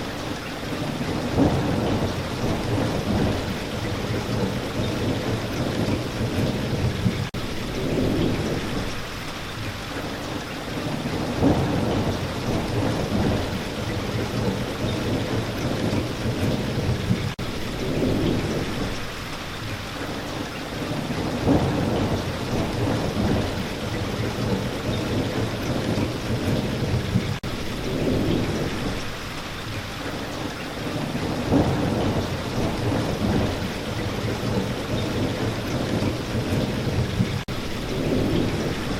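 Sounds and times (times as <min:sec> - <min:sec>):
steady rain falling: 0:00.0 - 0:38.9
rolling thunder: 0:00.7 - 0:09.2, 0:10.8 - 0:19.2, 0:20.8 - 0:29.3, 0:30.4 - 0:38.9.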